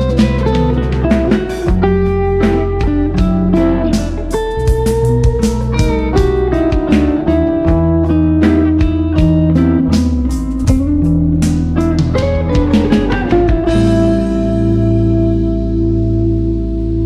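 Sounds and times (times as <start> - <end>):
light drums: 0.0 - 15.0
bass line: 0.0 - 17.0
plucked guitar music: 0.0 - 17.0.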